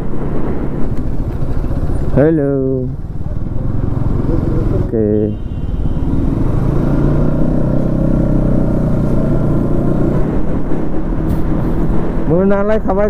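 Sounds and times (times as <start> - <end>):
motorcycle engine running: 0.0 - 12.0
road noise: 0.0 - 13.0.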